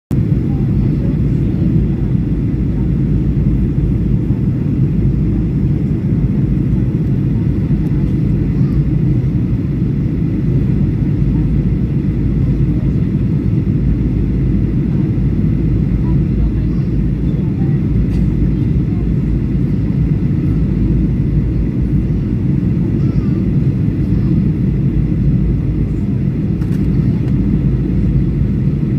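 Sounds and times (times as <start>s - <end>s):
airplane cabin engine rumble: 0.1s - 28.9s.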